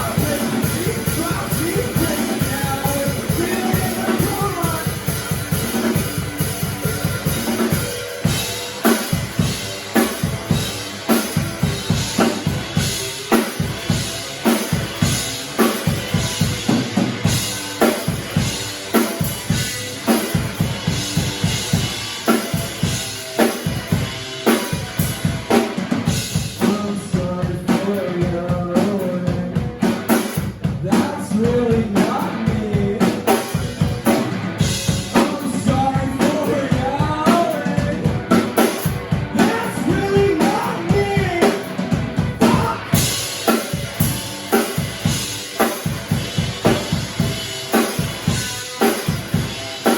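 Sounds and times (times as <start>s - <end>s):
rock band playing: 0.0s - 49.9s.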